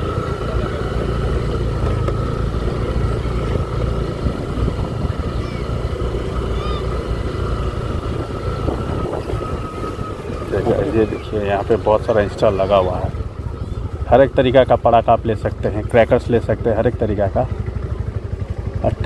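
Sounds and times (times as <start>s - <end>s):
constant whining tone: 0.0s - 19.0s
traffic engine and road rumble: 0.0s - 19.0s.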